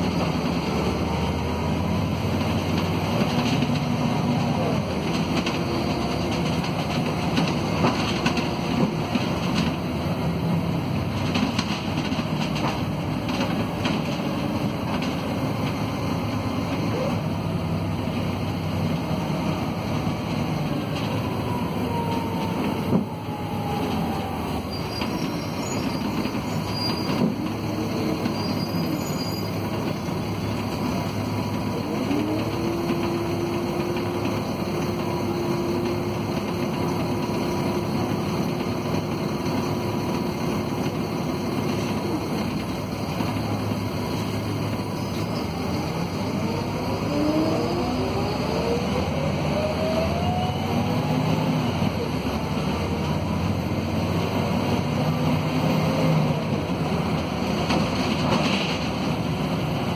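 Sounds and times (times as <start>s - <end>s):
bus body rumble and rattle: 0.0s - 59.9s
bus diesel engine: 0.0s - 59.9s.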